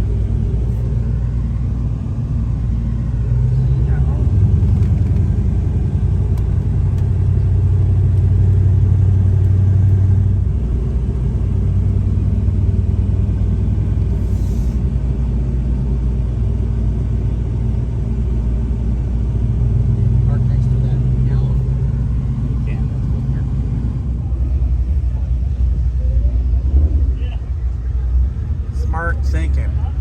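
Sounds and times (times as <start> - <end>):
low car engine rumble: 0.0 - 30.0
road noise: 0.0 - 30.0.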